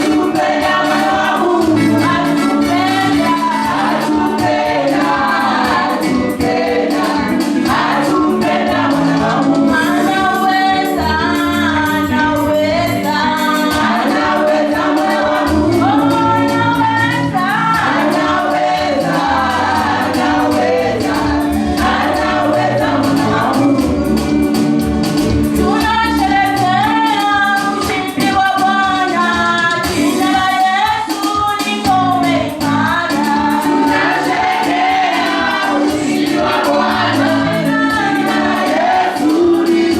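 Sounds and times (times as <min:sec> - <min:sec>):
group singing gospel song: 0:00.0 - 0:39.9
instrumental backing: 0:00.0 - 0:39.9
steady percussion beat: 0:00.0 - 0:39.9.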